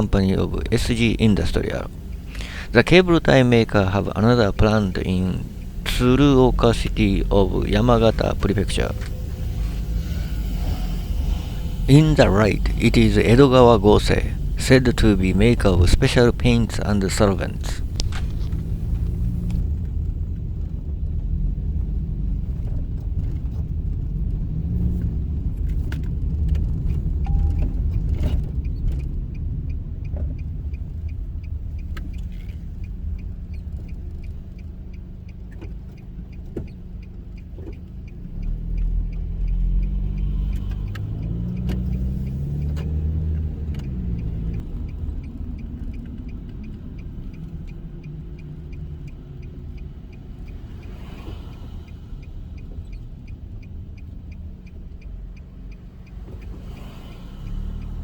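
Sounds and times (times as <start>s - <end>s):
car engine and road rumble: 0.0s - 58.0s
faint regular ticking: 0.0s - 58.0s.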